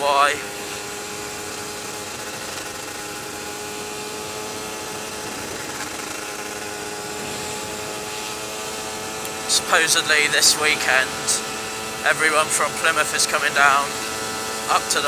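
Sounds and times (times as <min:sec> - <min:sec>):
two-stroke motorbike engine running: 0:00.0 - 0:15.0.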